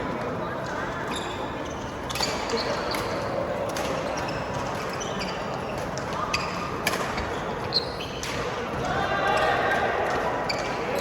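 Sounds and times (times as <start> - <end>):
murmur of indoor hall: 0.0 - 11.0.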